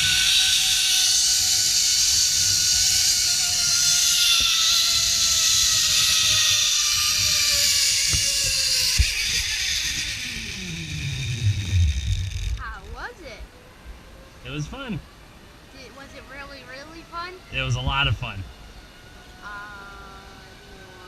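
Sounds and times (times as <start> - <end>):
zip-line pulleys whining: 0.0 - 13.3, 16.1 - 21.0.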